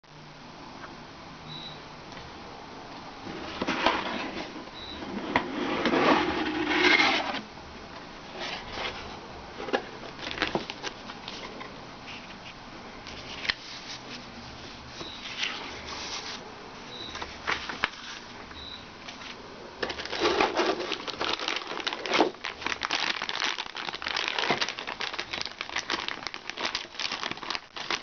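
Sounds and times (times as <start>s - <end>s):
packaging rustling and scraping: 3.3s - 7.4s, 8.3s - 16.5s, 17.1s - 18.3s, 19.1s - 28.0s.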